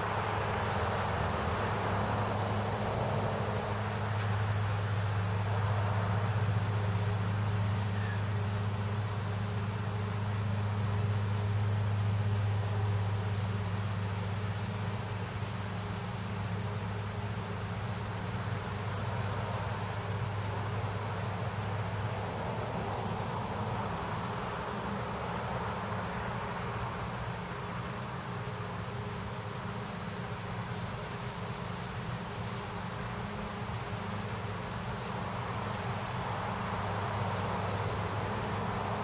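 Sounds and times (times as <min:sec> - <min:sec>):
road traffic hum: 0:00.0 - 0:39.0.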